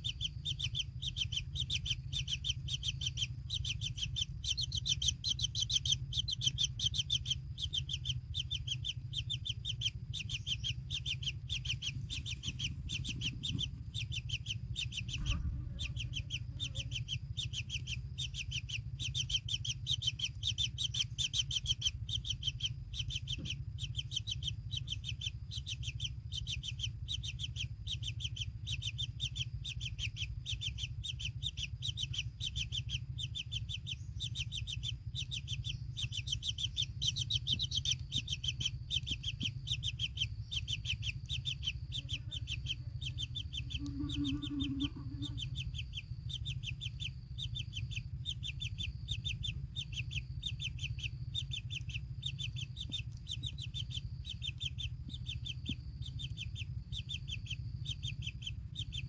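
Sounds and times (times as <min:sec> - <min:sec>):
low steady rumble: 0:00.0 - 0:59.0
nestlings chirping: 0:00.0 - 0:59.0.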